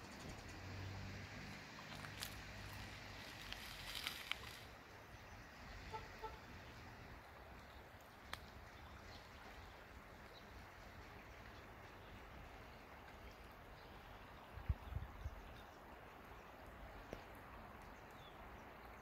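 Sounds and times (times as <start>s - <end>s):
stream running over stones: 0.2s - 19.0s.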